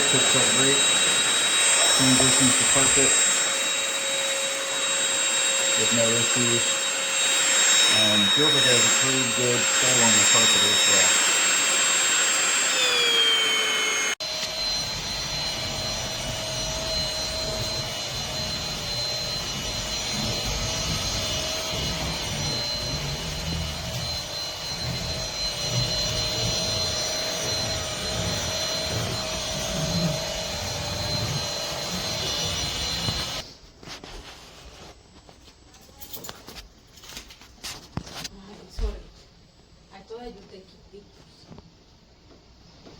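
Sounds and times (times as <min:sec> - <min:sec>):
vacuum cleaner on carpet: 0:00.0 - 0:35.0.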